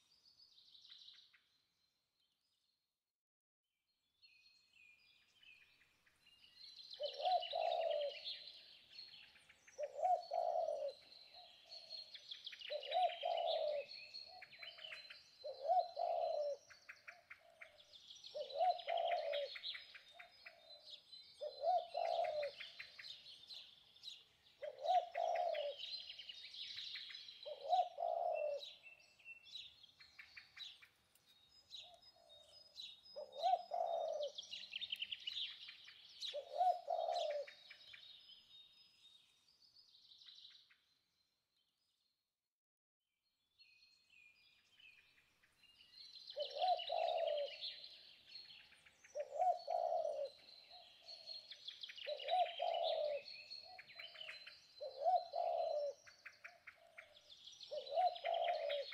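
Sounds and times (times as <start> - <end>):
birds chirping and twittering: 4.2 - 42.2, 43.3 - 58.9.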